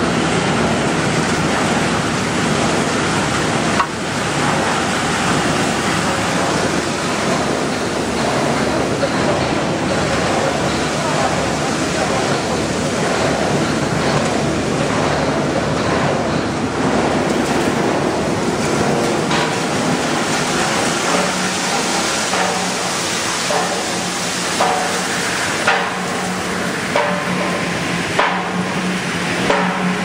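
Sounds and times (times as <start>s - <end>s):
machine hum: 0.0s - 30.0s
machine knocks and clatter: 0.0s - 30.0s
water churning in tank: 0.0s - 30.0s.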